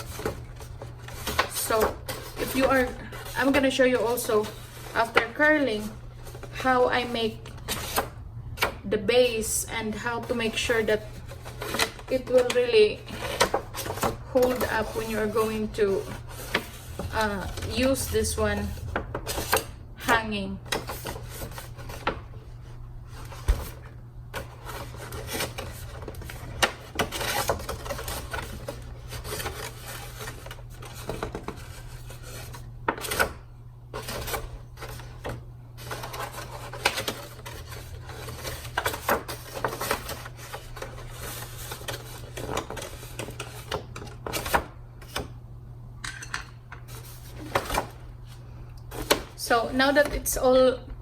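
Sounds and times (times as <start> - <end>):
paper rubbing and crinkling: 0.0 - 8.2, 9.9 - 19.6, 20.7 - 33.3, 33.9 - 45.2, 46.9 - 50.3.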